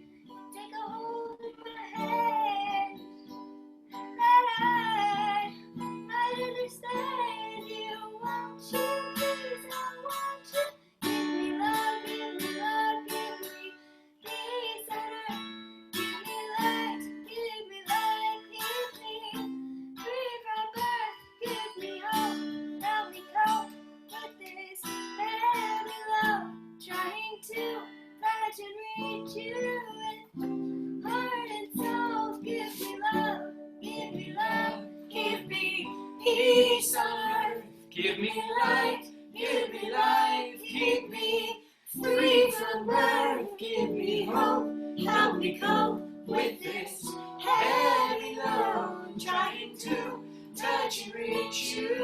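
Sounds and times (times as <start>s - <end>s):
girl singing: 0.0s - 3.1s, 3.9s - 52.0s
acoustic guitar strumming: 0.0s - 17.3s, 17.9s - 26.9s, 28.9s - 52.0s.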